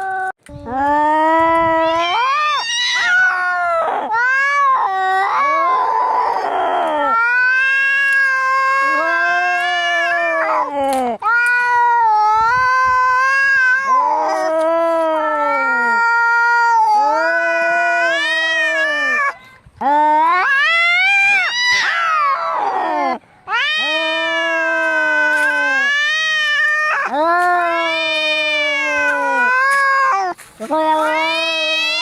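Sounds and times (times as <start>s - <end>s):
cats caterwauling: 0.0s - 19.4s, 20.0s - 32.0s
harsh rasping cat cry: 1.8s - 10.7s, 11.3s - 19.4s, 20.2s - 32.0s.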